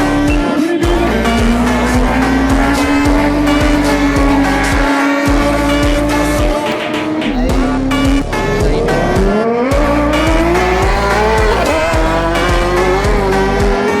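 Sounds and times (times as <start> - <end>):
motorcycle engine accelerating: 0.0 - 14.0
music with steady beat: 0.0 - 14.0.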